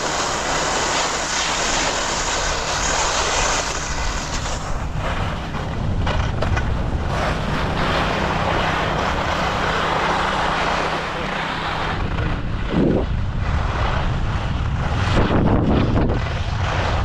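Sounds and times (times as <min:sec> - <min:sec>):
skis scraping on snow: 0:00.0 - 0:17.0
wind rumble on microphone: 0:00.0 - 0:17.0.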